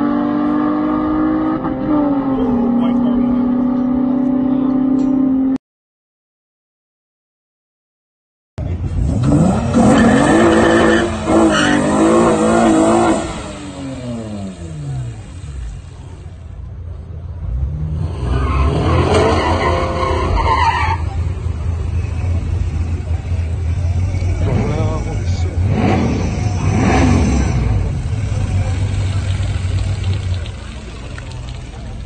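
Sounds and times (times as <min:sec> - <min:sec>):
race car engines accelerating: 0:00.0 - 0:05.6, 0:08.6 - 0:32.0.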